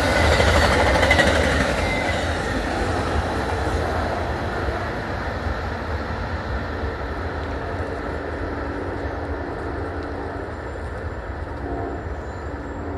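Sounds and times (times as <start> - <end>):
train rumbling: 0.0 - 12.9.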